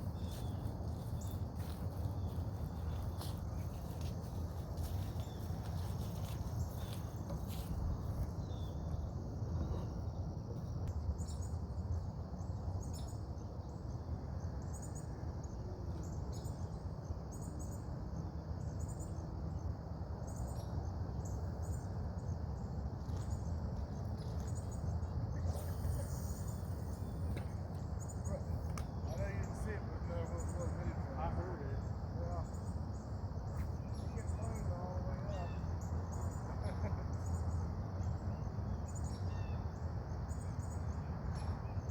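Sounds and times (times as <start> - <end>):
insects droning high-pitched: 0.0 - 41.9.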